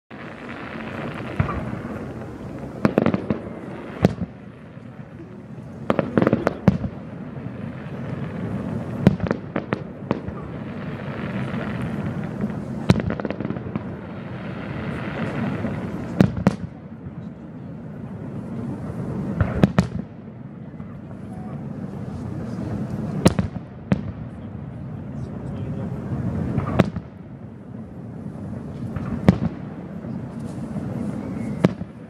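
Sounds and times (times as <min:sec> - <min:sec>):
fireworks bangs: 0:00.1 - 0:32.0.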